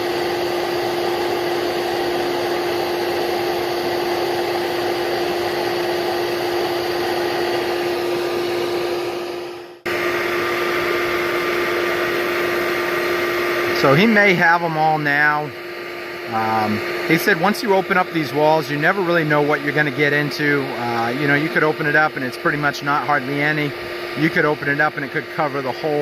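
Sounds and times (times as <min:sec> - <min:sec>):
vacuum motor humming: 0:00.0 - 0:26.0.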